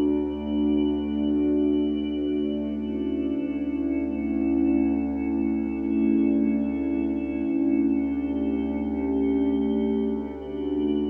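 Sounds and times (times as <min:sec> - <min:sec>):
ambient music with sustained tones: 0:00.0 - 0:11.0.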